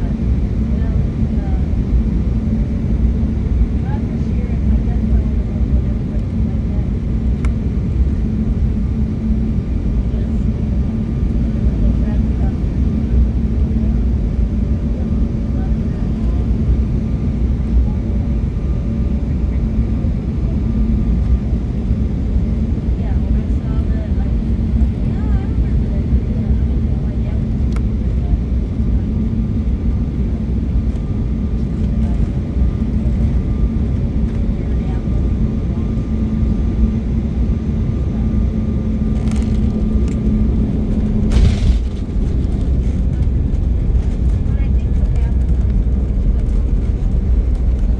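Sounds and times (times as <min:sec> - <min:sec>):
constant hum: 0:00.0 - 0:47.9
jet engines rumbling: 0:00.0 - 0:47.9.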